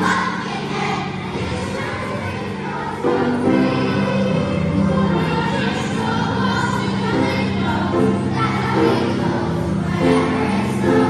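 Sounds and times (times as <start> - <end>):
children's choir singing: 0.0 - 11.0.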